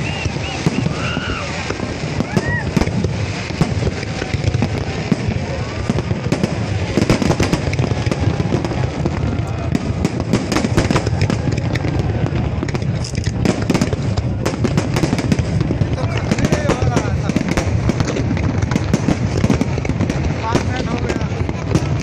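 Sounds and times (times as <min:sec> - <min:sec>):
fireworks crackling: 0:00.0 - 0:22.0
people's voices: 0:00.0 - 0:22.0.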